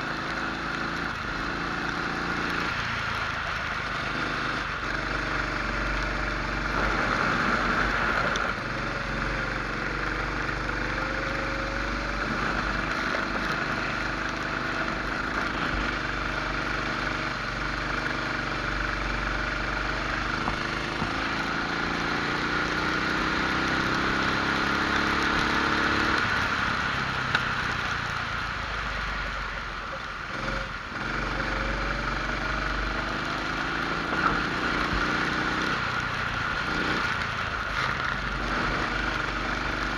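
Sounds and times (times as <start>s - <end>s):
kart engine: 0.0s - 39.9s.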